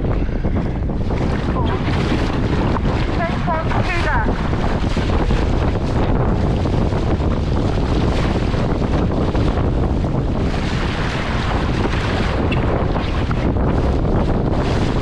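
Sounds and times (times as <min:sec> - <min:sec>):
choppy water rushing: 0:00.0 - 0:15.0
wind blasting across microphone: 0:00.0 - 0:15.0.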